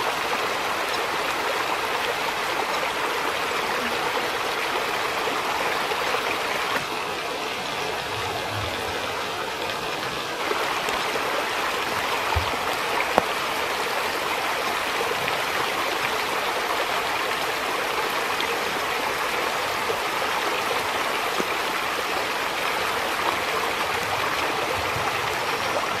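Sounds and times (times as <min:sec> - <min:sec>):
stream running over stones: 0:00.0 - 0:26.0.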